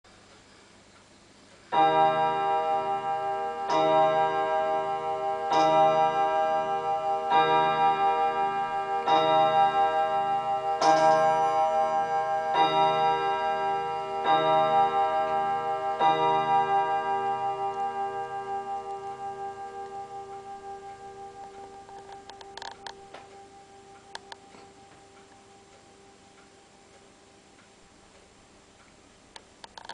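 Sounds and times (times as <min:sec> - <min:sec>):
wall clock striking: 0:01.7 - 0:29.0.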